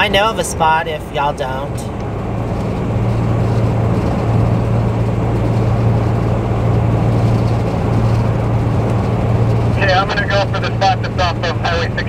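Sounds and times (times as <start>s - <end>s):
low engine drone: 0.0s - 12.0s
road and wind noise: 0.0s - 12.0s.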